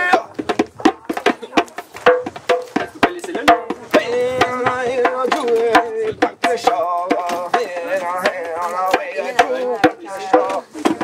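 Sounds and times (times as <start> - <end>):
hand drum slaps: 0.0 - 11.0.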